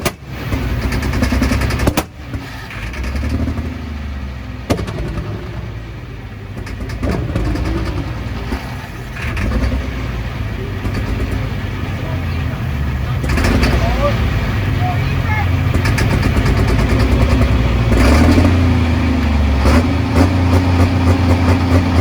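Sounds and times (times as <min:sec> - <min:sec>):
diesel tractor engine running rough: 0:00.0 - 0:22.0
engine bangs: 0:00.0 - 0:22.0.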